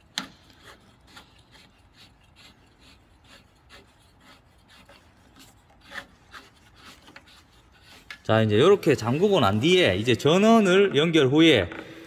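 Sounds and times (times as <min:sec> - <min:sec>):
plastic collar rasping: 0:00.0 - 0:09.8.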